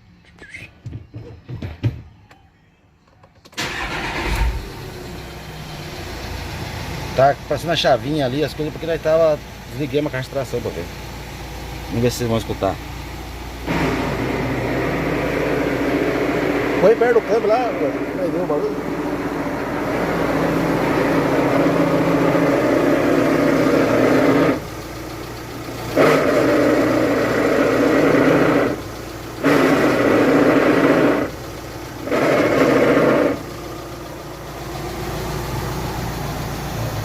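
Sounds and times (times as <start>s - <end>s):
engine idling: 3.6s - 37.0s.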